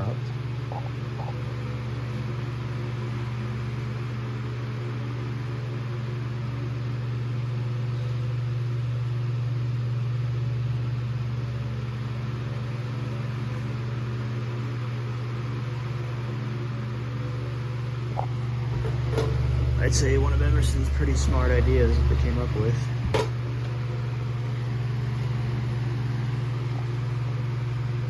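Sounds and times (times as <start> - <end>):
table fan running: 0.0 - 28.0.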